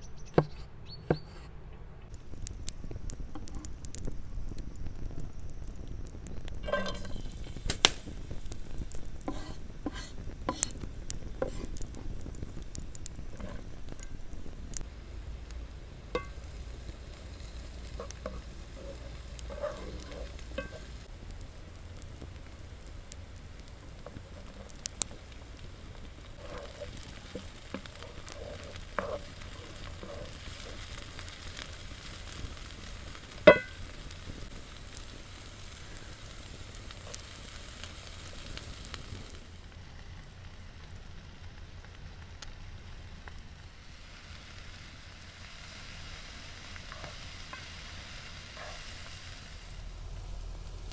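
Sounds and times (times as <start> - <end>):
food sizzling in a pan: 2.2 - 50.9.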